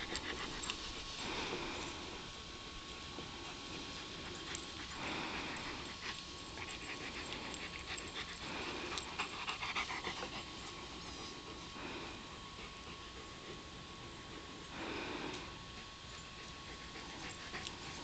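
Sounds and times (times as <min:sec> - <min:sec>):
dog panting: 0:00.0 - 0:02.3, 0:03.0 - 0:18.0.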